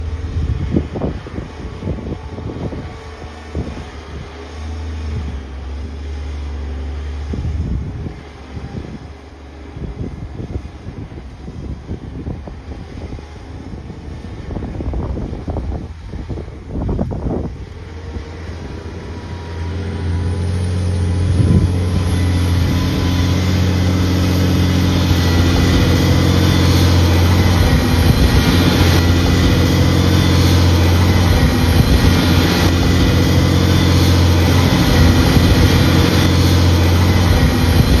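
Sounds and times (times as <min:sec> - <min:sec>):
heavy truck engine running: 0:00.0 - 0:38.0.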